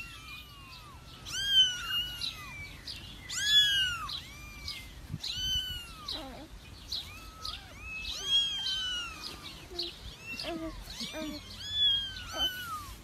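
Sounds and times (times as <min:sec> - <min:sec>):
kittens mewing: 0:00.0 - 0:13.0.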